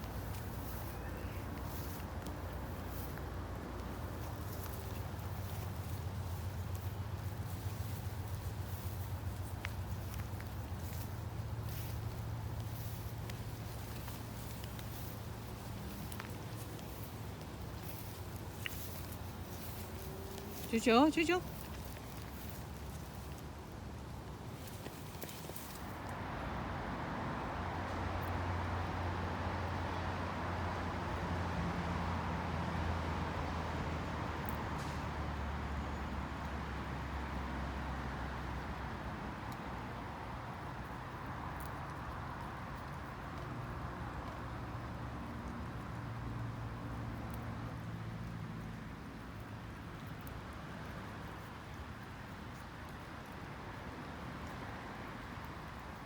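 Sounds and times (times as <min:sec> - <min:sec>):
outdoor background noise: 0:00.0 - 0:56.0
vehicle engine hum passing: 0:00.0 - 0:56.0.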